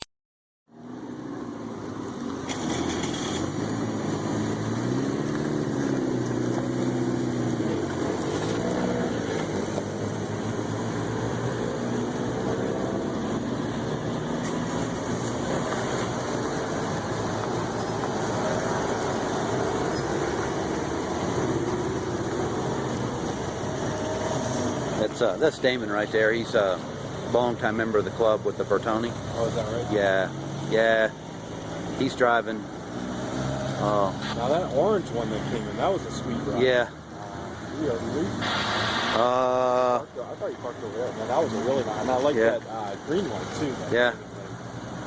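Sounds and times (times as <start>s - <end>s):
car engines driving past: 0.7s - 45.0s
car revving and pulling away: 0.7s - 45.0s.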